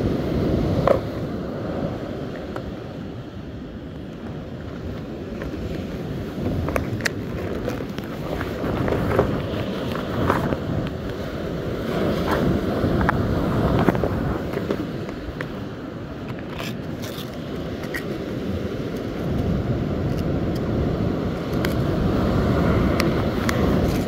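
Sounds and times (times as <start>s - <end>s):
breaking surf rumble: 0.0s - 24.0s
wind buffeting microphone: 0.0s - 24.0s.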